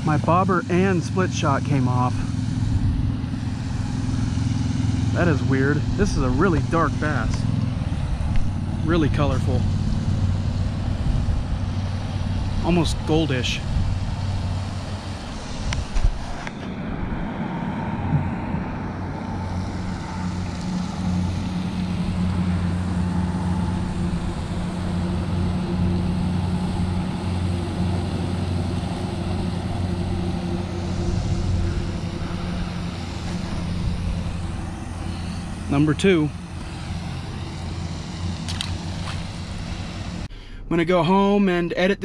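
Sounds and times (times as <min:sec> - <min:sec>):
motor humming: 0:00.0 - 0:40.6.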